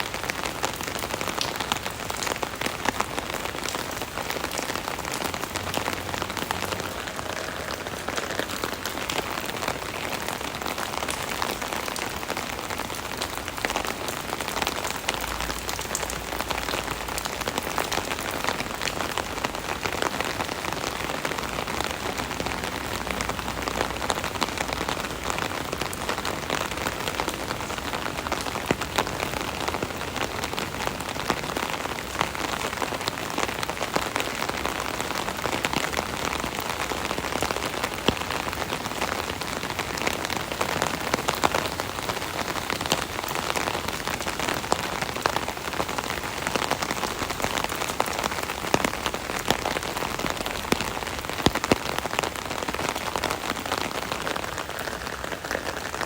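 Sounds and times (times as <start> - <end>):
rain pattering on an umbrella: 0.0 - 56.0.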